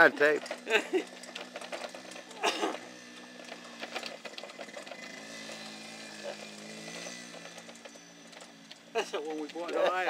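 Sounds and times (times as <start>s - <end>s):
small motorbike engine running: 0.0s - 10.0s.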